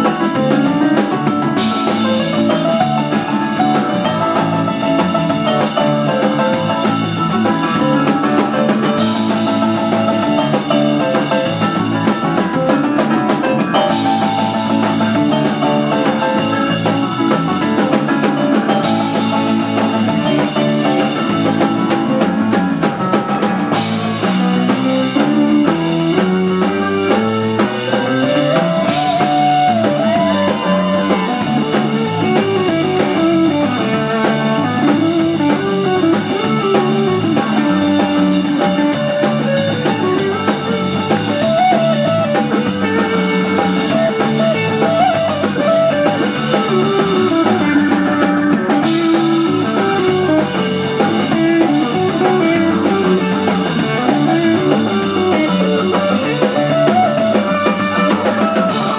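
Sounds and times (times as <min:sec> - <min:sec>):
bass guitar: 0:00.0 - 0:58.9
drum kit: 0:00.0 - 0:58.9
electric guitar lead: 0:00.0 - 0:58.9
organ: 0:00.0 - 0:58.9
piano: 0:00.0 - 0:58.9.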